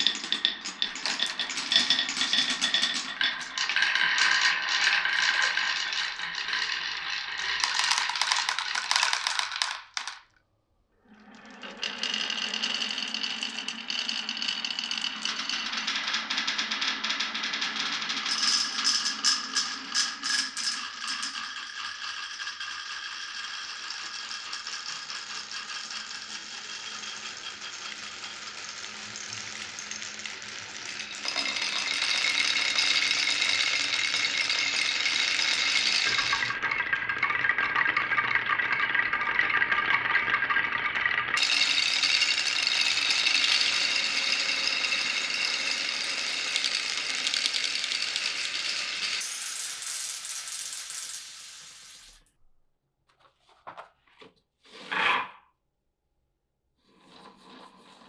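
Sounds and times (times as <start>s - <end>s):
glass marbles rattling on a track: 0.0s - 10.4s, 11.6s - 52.3s.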